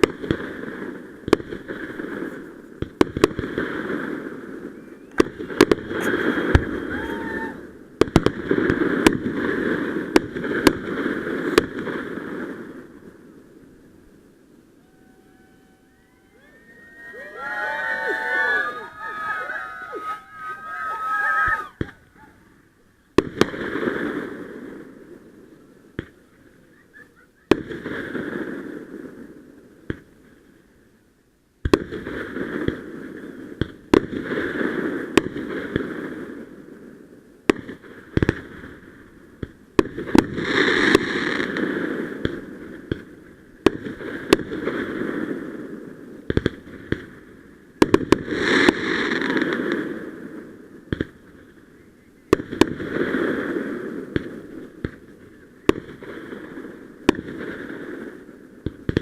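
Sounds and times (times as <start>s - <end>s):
firework bangs: 0.0s - 13.5s, 16.6s - 22.5s, 23.1s - 26.4s, 27.4s - 30.2s, 31.6s - 51.6s, 52.3s - 59.0s
crackling hiss: 0.0s - 59.0s.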